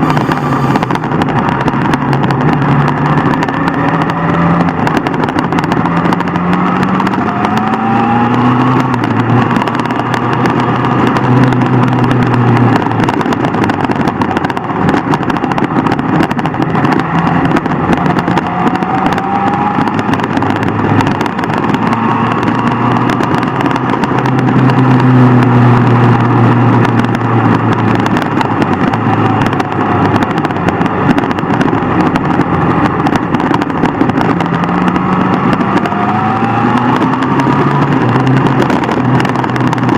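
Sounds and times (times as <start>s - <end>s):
dense rush of noise: 0.0s - 39.9s
motorbike engine accelerating: 0.0s - 39.9s.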